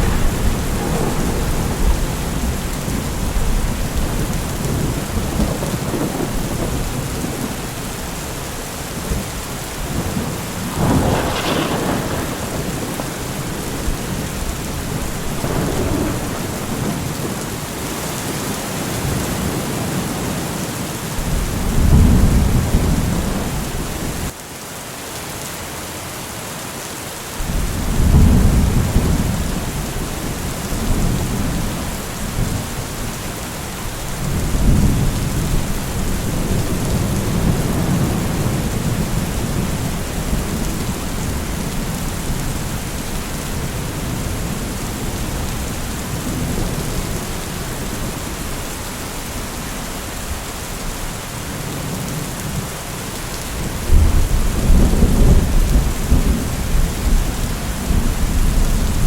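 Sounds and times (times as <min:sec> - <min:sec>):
rolling thunder: 0:00.0 - 0:18.3, 0:21.2 - 0:24.3, 0:27.4 - 0:51.0, 0:53.5 - 0:59.0
steady rain: 0:00.0 - 0:59.0.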